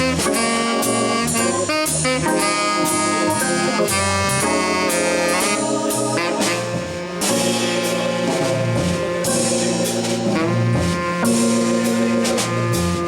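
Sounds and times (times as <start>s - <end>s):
drums on cymbals: 0.0s - 13.0s
organ: 0.0s - 13.0s
tenor saxophone: 0.0s - 13.0s.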